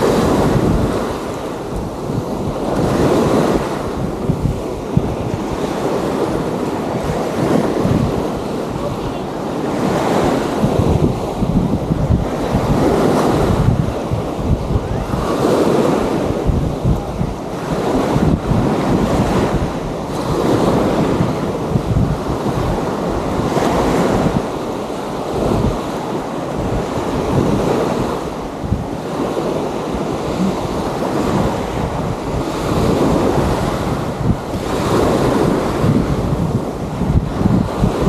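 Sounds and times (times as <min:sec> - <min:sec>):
small waves washing onto sand: 0:00.0 - 0:38.0
wind rumbling on microphone: 0:00.0 - 0:38.0.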